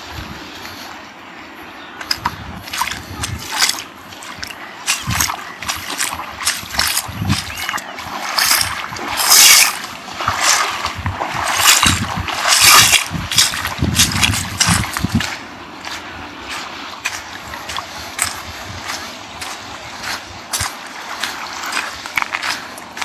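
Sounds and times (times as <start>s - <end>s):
seawater splashing and sloshing: 1.8s - 23.0s.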